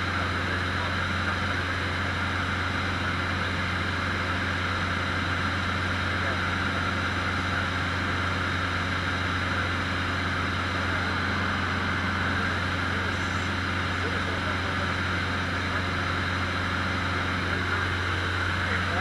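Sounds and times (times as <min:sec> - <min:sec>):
small plane engine drone: 0:00.0 - 0:19.0.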